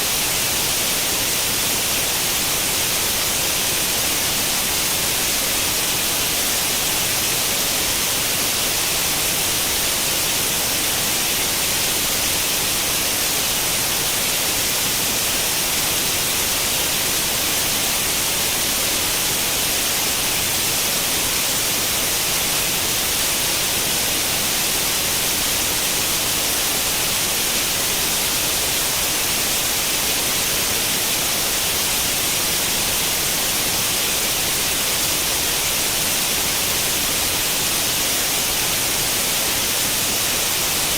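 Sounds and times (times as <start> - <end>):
television static hiss: 0.0 - 40.9.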